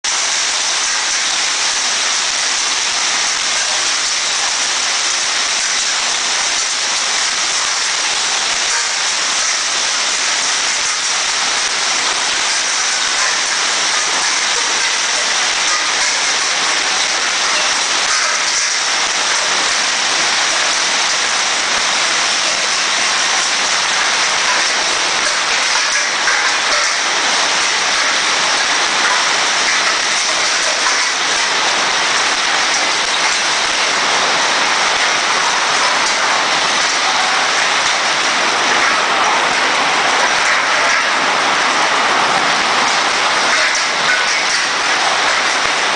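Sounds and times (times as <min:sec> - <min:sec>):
hail and heavy rain pelting: 0:00.0 - 0:45.9.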